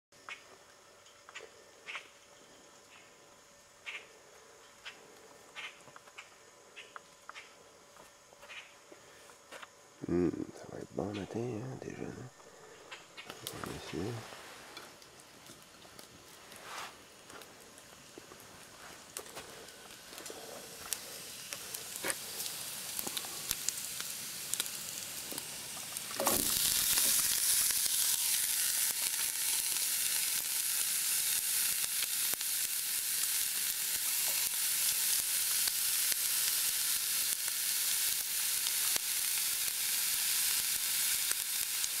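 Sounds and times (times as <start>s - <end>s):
loud steady sizzling: 0.2s - 42.0s.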